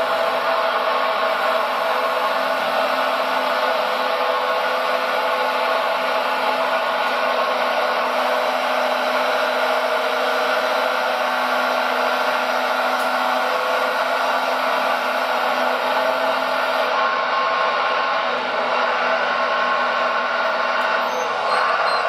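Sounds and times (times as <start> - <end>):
hydraulic pump whine: 0.0 - 22.0.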